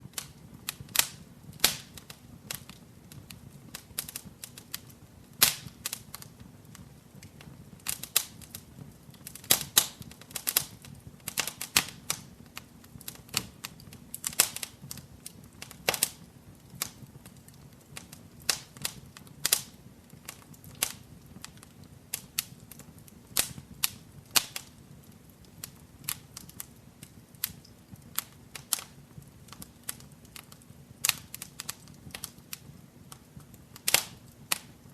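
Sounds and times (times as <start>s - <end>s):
fire crackling and popping: 0.0s - 34.9s
low rumble of flames: 0.0s - 34.9s.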